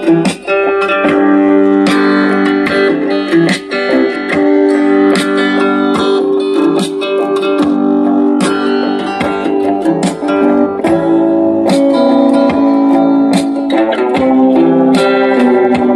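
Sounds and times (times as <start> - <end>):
acoustic guitar music: 0.0 - 15.9.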